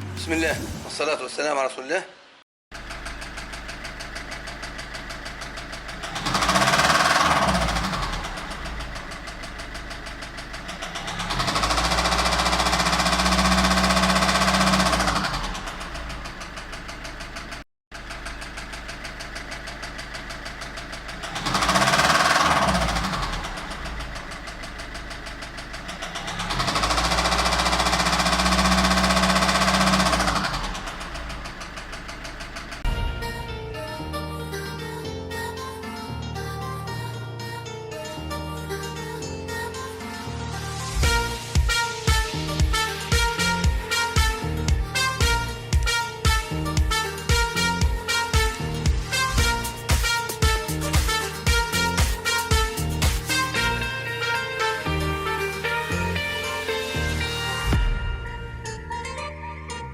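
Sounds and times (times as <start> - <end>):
diesel engine idling and revving: 0.0 - 1.0, 2.7 - 34.3, 40.0 - 58.8.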